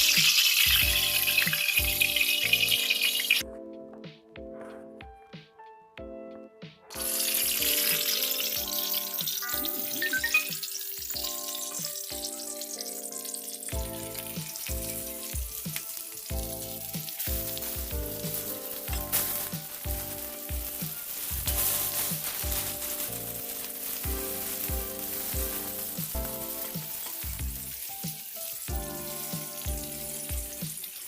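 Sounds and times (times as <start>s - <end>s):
food sizzling in hot oil: 0.0s - 3.4s, 6.9s - 31.0s.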